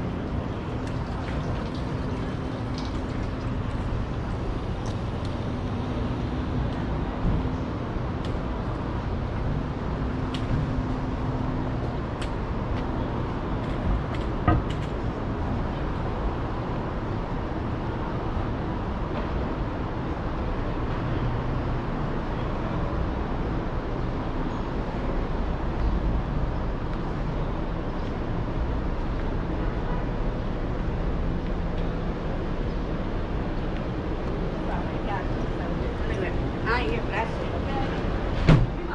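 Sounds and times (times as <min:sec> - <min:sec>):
passing and idling cars: 0:00.0 - 0:38.9.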